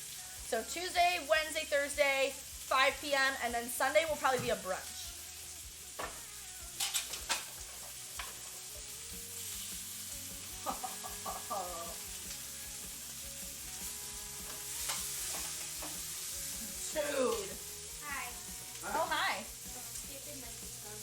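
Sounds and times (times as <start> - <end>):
steak sizzling in a frying pan: 0.0 - 21.0.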